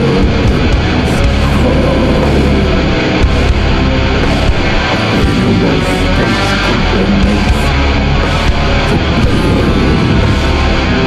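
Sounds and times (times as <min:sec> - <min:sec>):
distorted electric guitar: 0:00.0 - 0:11.0
doom metal music: 0:00.0 - 0:11.0.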